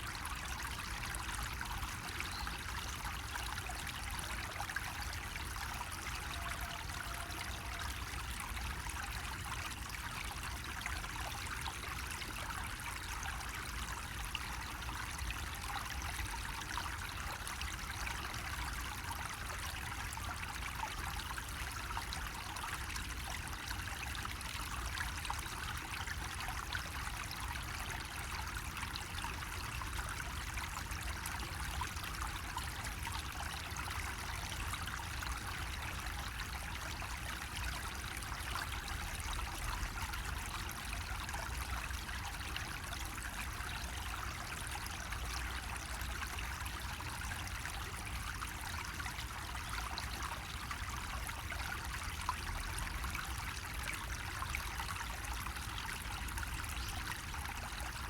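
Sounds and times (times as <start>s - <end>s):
water trickling from spout: 0.0s - 58.0s.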